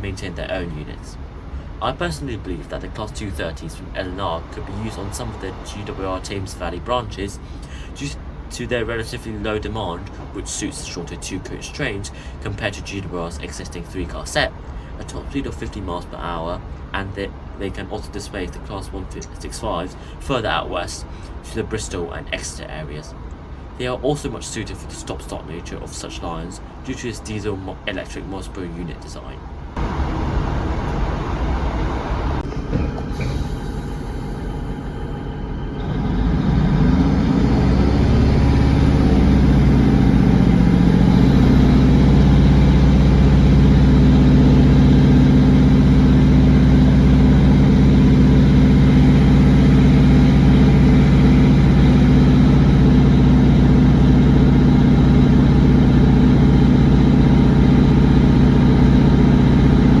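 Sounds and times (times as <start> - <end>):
train diesel engines droning: 0.0 - 60.0.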